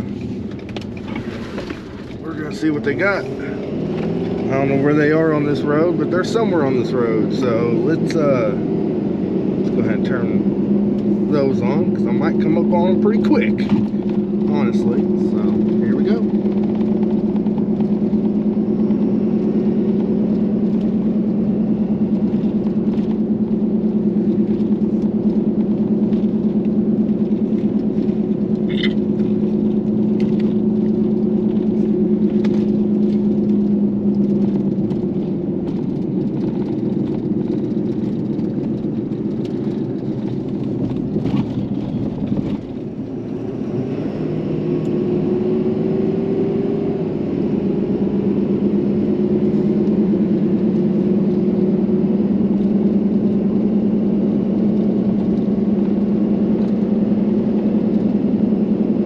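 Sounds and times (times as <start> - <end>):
truck engine droning: 0.0 - 59.0.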